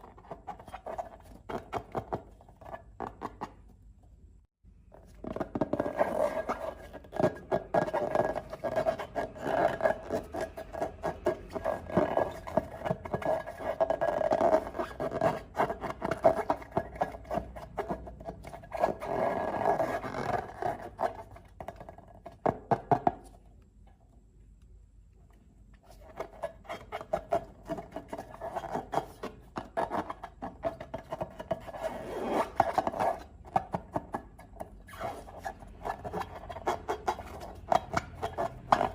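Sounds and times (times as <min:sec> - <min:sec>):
rubber balloon squeaking: 0:00.0 - 0:03.6, 0:04.9 - 0:22.7, 0:25.9 - 0:38.9.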